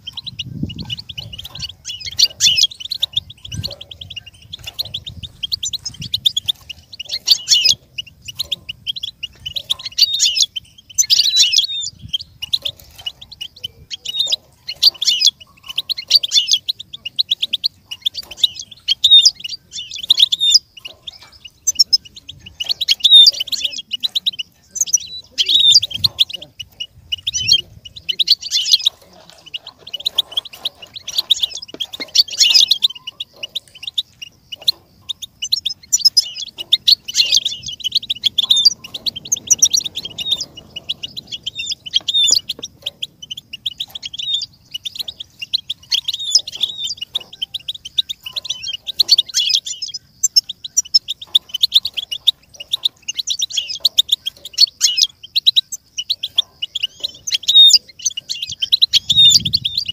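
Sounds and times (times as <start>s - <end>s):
bird twittering trills: 0.0s - 59.9s.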